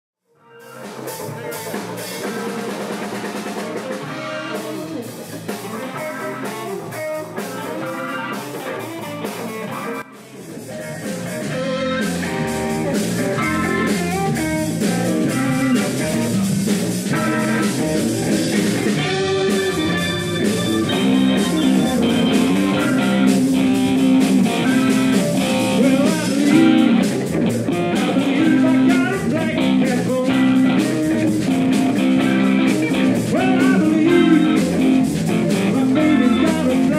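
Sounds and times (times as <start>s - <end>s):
drums: 0.2s - 36.9s
bass guitar: 0.3s - 36.9s
electric guitar: 0.3s - 36.9s
keyboard: 0.4s - 36.9s.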